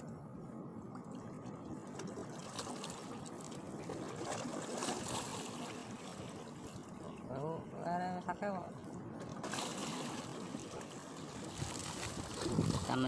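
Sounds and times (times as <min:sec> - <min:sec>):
water lapping against rocks: 0:01.0 - 0:07.8, 0:08.5 - 0:13.0.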